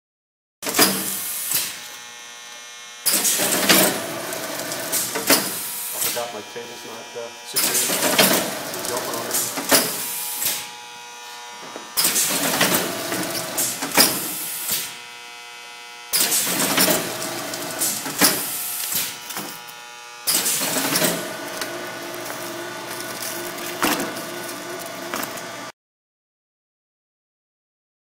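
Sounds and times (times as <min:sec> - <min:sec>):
packaging machine mechanical noise: 0:00.6 - 0:02.2, 0:03.0 - 0:10.8, 0:11.5 - 0:15.0, 0:16.1 - 0:25.7
machine running hum: 0:02.0 - 0:25.7.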